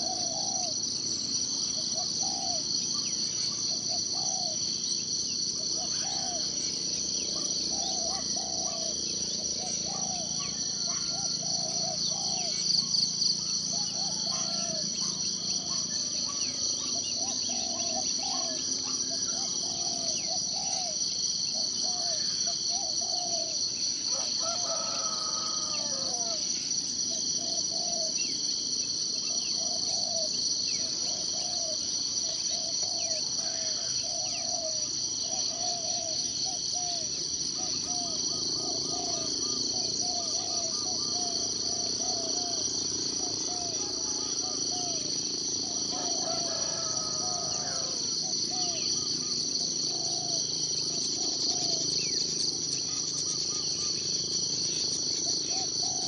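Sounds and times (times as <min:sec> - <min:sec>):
longer complex bird call: 0:00.0 - 0:28.4, 0:29.1 - 0:56.0
high-pitched insect chorus: 0:00.0 - 0:56.0.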